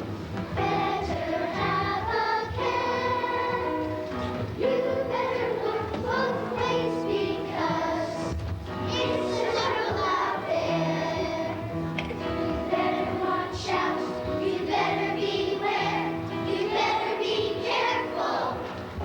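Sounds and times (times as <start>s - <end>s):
children's choir singing: 0.0s - 19.0s
instrumental accompaniment: 0.0s - 19.0s.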